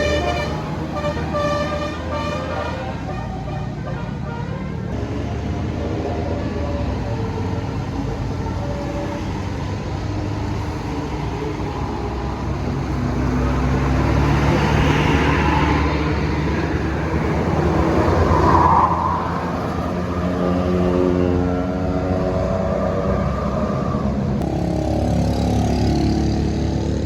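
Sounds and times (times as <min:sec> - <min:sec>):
bus engine driving past: 0:00.0 - 0:27.0
road noise: 0:00.0 - 0:27.0.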